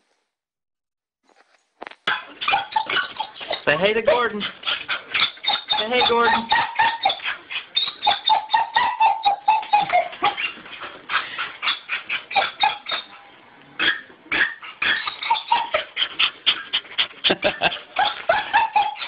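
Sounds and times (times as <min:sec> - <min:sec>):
dog whining: 0:02.1 - 0:16.8, 0:17.4 - 0:19.0.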